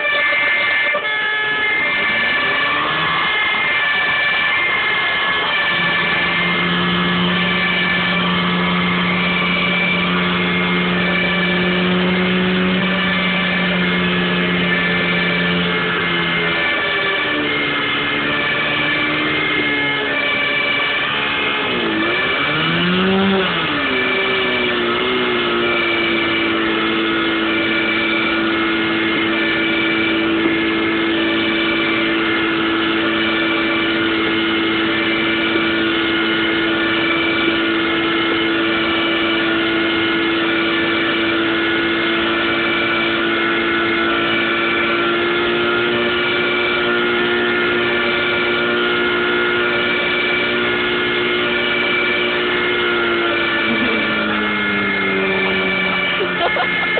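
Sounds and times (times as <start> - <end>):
pump engine revving: 0.0 - 56.9.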